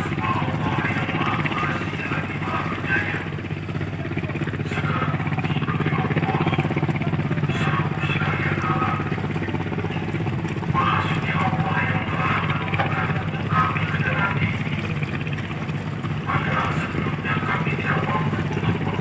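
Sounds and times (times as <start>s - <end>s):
boat engine idling: 0.0s - 19.0s
faint voices: 0.0s - 19.0s.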